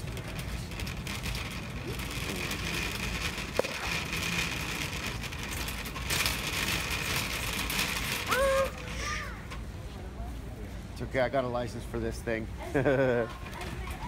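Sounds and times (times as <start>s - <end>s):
shopping cart rattling: 0.0s - 9.6s, 11.1s - 14.0s.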